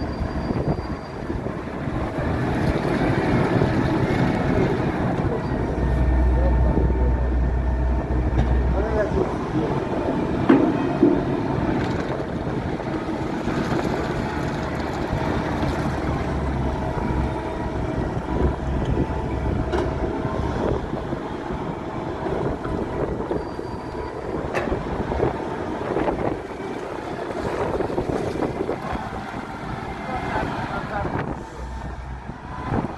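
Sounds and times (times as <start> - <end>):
diesel engine running: 0.0 - 32.9
wind buffeting microphone: 0.0 - 32.9.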